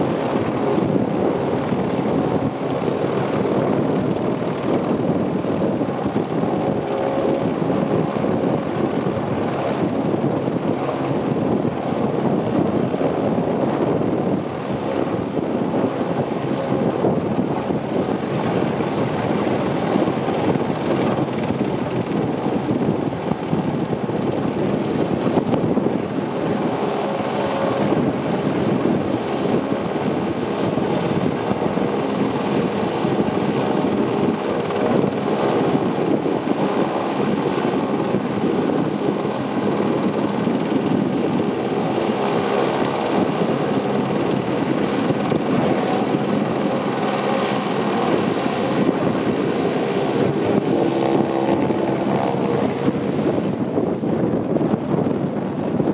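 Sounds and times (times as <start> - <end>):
helicopter hovering: 0.0 - 55.9.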